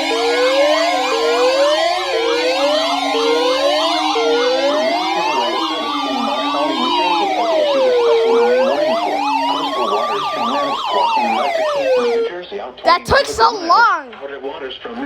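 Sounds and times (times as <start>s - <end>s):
low wavering siren tone: 0.0s - 12.3s
wailing siren: 0.0s - 12.4s
yelping siren sweeps: 0.0s - 12.4s.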